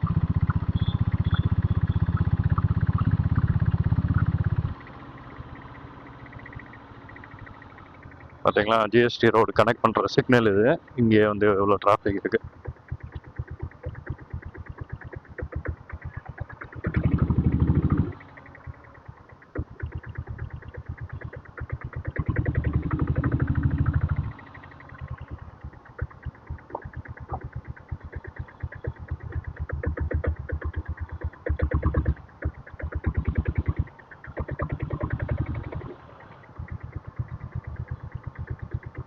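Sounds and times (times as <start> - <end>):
engine revving: 0.0 - 39.0
motorcycle engine chugging: 0.0 - 39.0.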